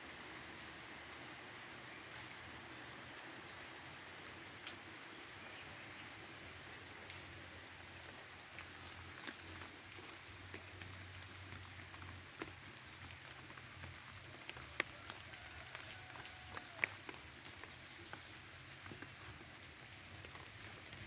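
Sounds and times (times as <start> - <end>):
steady rain falling: 0.0 - 21.0
water drip: 4.0 - 21.0.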